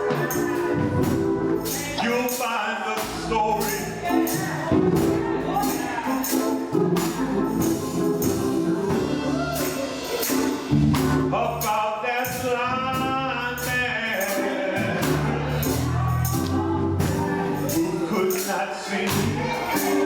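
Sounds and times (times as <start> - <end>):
bass line: 0.0 - 2.2, 3.0 - 11.8, 12.4 - 18.2, 19.1 - 20.0
gospel singing over band: 0.0 - 20.0
tambourine beat: 0.0 - 20.0.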